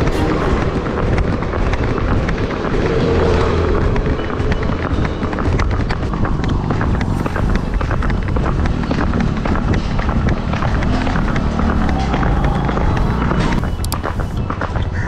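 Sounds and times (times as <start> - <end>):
horse hooves clopping on tarmac: 0.0 - 15.0
wind buffeting microphone: 0.0 - 15.0.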